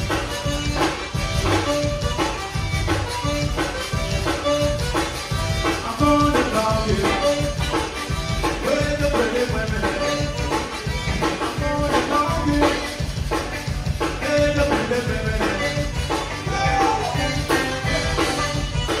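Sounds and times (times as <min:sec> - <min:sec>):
drum kit dance beat: 0:00.0 - 0:19.0
held melody notes: 0:00.0 - 0:19.0
live band playing: 0:00.0 - 0:19.0.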